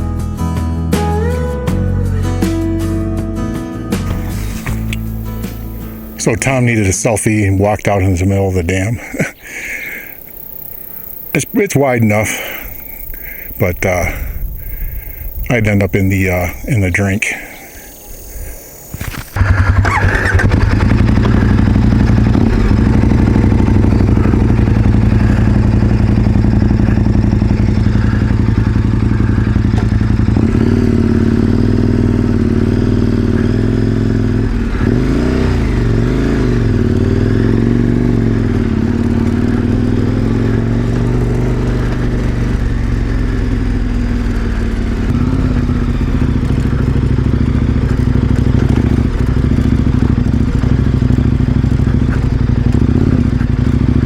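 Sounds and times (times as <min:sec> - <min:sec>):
motorcycle engine running: 0:04.0 - 0:54.0.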